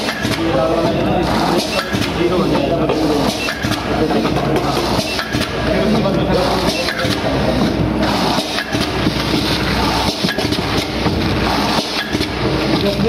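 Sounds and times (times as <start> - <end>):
packing machine clattering: 0.0 - 13.0.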